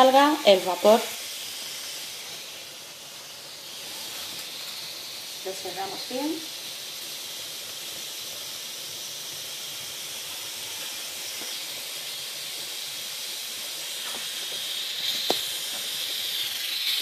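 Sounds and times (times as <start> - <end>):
water steaming hiss: 0.0 - 17.0.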